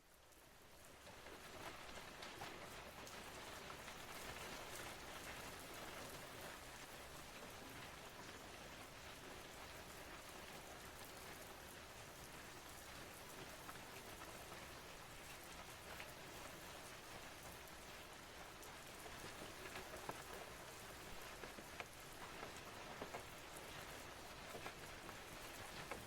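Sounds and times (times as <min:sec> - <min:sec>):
rain on a window: 0:00.0 - 0:26.0.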